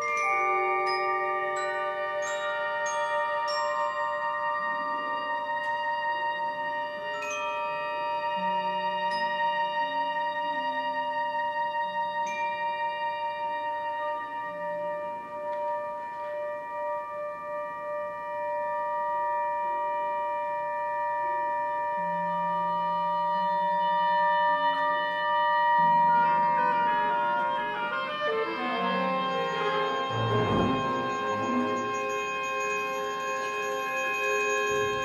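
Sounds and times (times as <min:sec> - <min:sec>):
contemporary classical ensemble: 0:00.0 - 0:20.8, 0:21.4 - 0:35.0.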